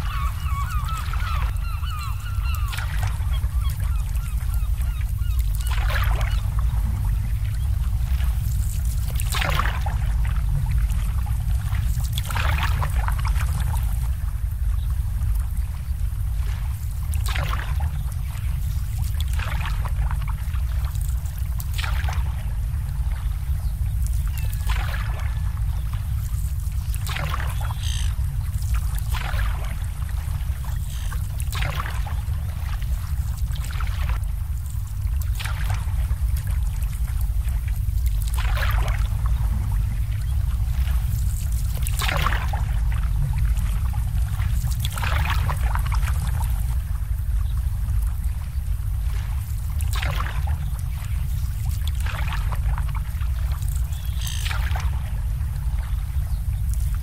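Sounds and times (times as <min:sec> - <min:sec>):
steady low rumble: 0:00.0 - 0:57.0
waves lapping against boat hulls: 0:00.0 - 0:57.0.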